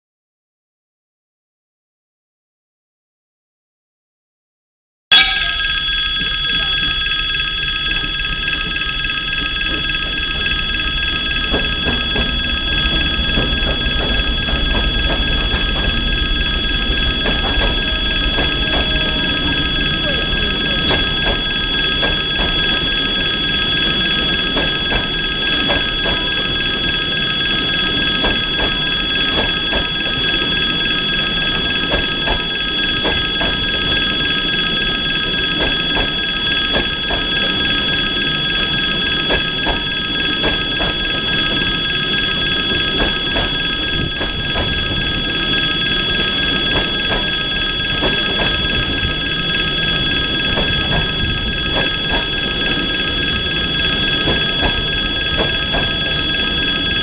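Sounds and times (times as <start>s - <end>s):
diesel locomotive engine rumbling: 5.1s - 57.0s
level crossing bell ringing: 5.1s - 57.0s
train wheels clicking on rails: 5.6s - 57.0s.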